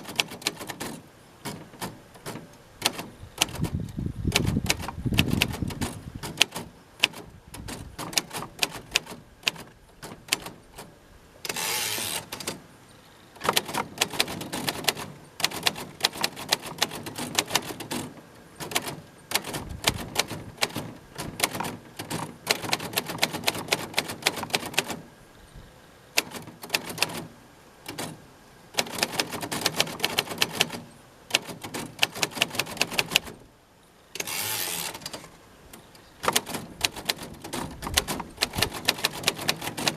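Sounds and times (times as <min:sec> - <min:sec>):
typewriter keystroke clicks: 0:00.0 - 0:10.9, 0:13.4 - 0:25.0, 0:26.2 - 0:27.3, 0:27.9 - 0:28.2, 0:28.8 - 0:33.4, 0:36.2 - 0:39.9
typewriter carriage return rattle: 0:00.0 - 0:12.6, 0:13.4 - 0:25.1, 0:26.2 - 0:28.2, 0:28.8 - 0:33.4, 0:34.2 - 0:39.9.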